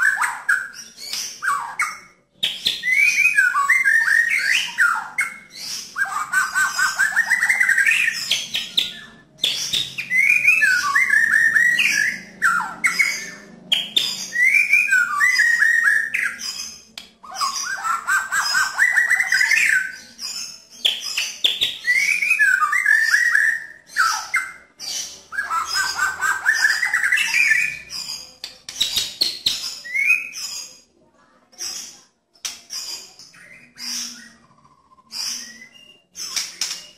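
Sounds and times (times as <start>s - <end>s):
bird singing harsh phrases: 0.0s - 36.9s.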